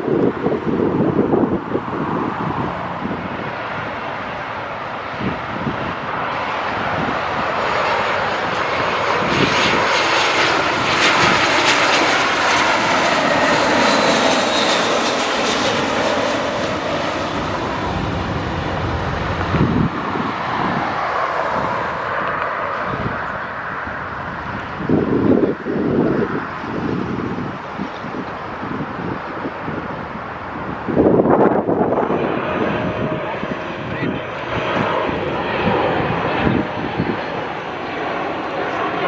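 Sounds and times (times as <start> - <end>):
jet airliner passing low: 0.0 - 39.0.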